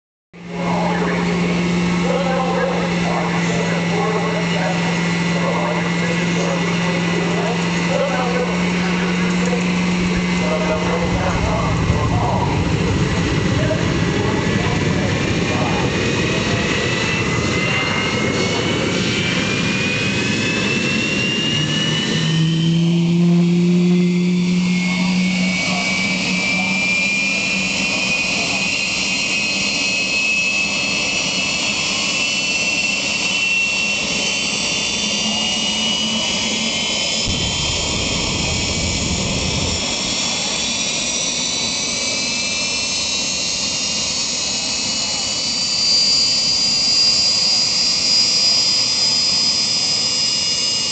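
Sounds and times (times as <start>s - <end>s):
high turbine whine: 0.4s - 50.9s
jet engine roar: 0.4s - 50.9s
low droning tone: 0.4s - 50.9s.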